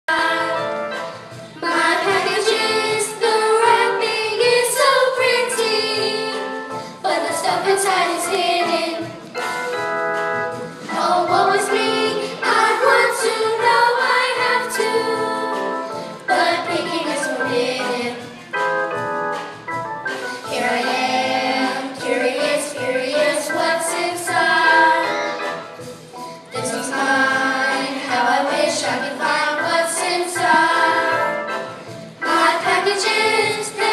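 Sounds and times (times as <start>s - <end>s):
children's choir singing: 0.1s - 9.8s, 10.4s - 18.5s, 20.2s - 33.9s.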